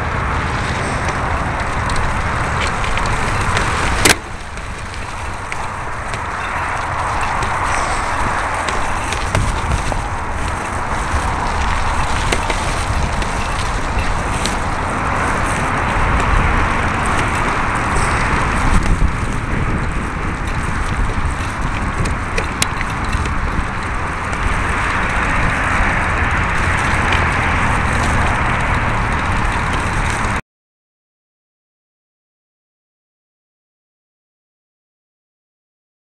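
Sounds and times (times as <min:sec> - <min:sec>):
small clicks from bumps: 0:00.0 - 0:30.4
tyres rolling on dirt: 0:00.0 - 0:30.4
wind on microphone: 0:00.0 - 0:30.4.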